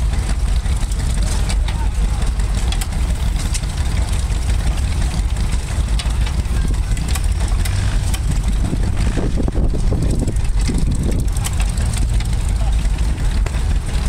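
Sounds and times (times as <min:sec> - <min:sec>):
tractor engine low rumble: 0:00.0 - 0:14.0.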